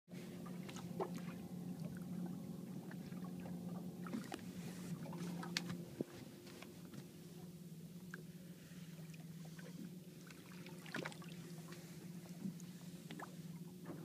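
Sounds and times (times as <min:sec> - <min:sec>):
boat engine hum underwater: 0:00.1 - 0:14.0.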